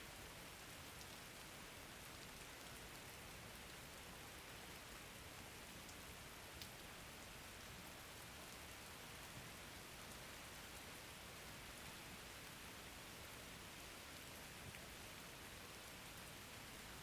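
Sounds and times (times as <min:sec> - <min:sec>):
faint rain hiss: 0:00.0 - 0:17.0.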